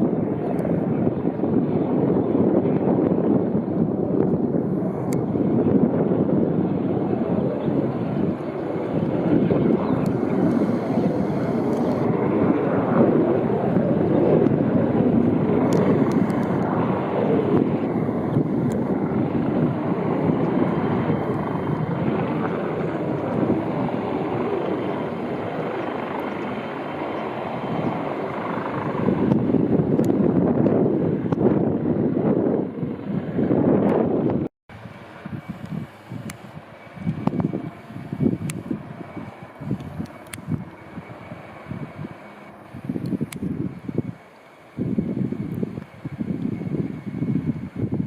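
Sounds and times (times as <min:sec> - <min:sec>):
helicopter rotor and engine rumble: 0:00.0 - 0:48.0.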